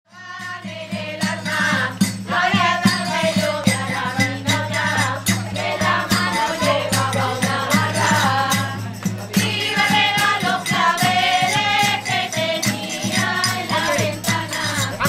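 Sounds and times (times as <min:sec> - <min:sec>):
group singing in unison: 0:00.1 - 0:15.0
rhythmic percussion strokes: 0:00.1 - 0:15.0.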